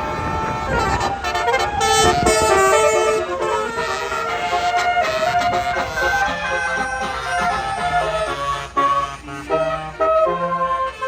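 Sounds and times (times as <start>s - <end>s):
bus melody horn playing a tune: 0.0s - 11.0s
low engine rumble: 0.0s - 11.0s.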